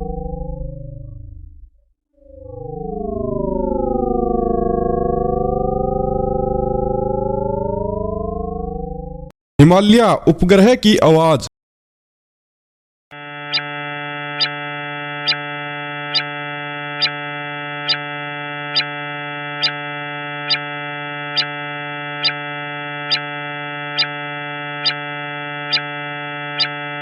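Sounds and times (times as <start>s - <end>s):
low synthetic drone: 0.0s - 9.3s, 13.2s - 27.0s.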